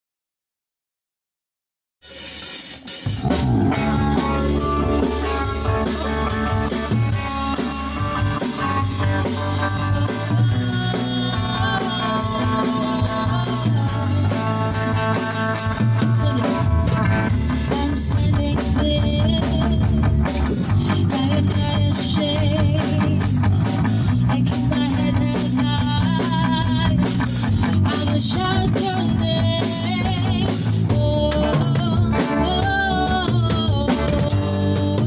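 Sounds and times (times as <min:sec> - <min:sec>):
drum kit beat with cymbals: 0:02.0 - 0:35.0
electric guitar: 0:02.2 - 0:35.0
electric bass guitar: 0:03.0 - 0:35.0.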